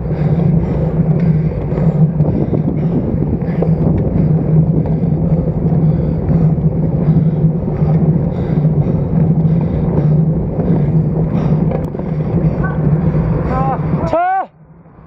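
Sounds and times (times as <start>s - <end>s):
constant low hum: 0.0s - 15.0s
wind and road noise: 0.0s - 15.0s.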